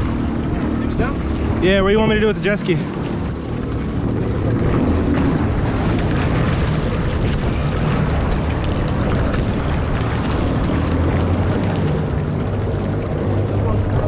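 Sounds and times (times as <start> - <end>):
wind noise on microphone: 0.0 - 2.4, 3.1 - 14.0
jet ski engine running: 0.0 - 14.0.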